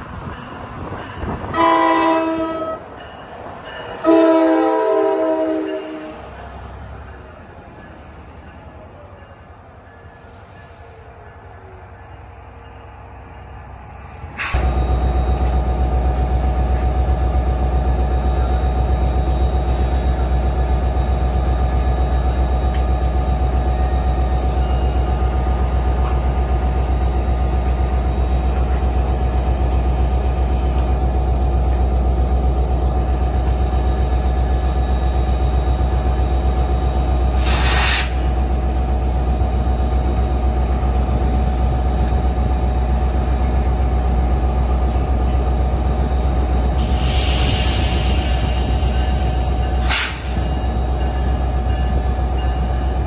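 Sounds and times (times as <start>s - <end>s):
diesel locomotive engine drone: 0.0s - 53.0s
train wheels rumbling on rails: 0.0s - 53.0s.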